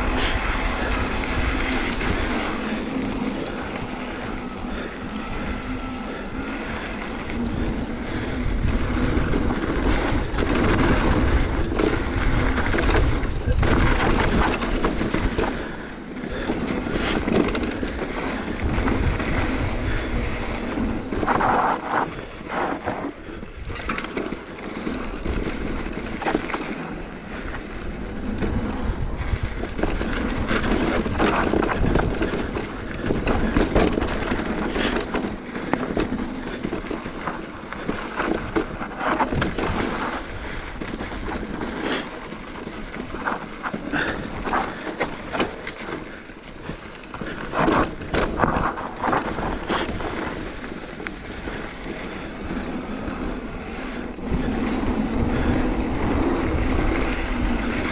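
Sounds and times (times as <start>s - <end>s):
bike knocking and rattling: 0.0s - 57.9s
bike tyres crunching on dirt: 0.0s - 57.9s.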